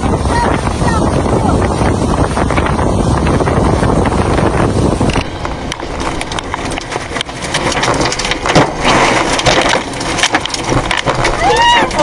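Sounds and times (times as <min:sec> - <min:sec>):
heavy rain: 0:00.0 - 0:12.0
wind noise: 0:00.0 - 0:12.0.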